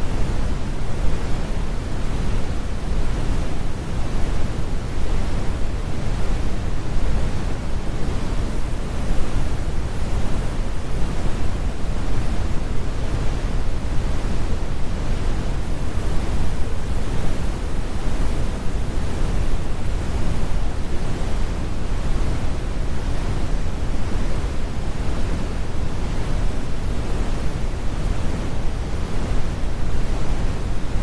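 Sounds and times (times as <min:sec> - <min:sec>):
brown noise: 0:00.0 - 0:31.0.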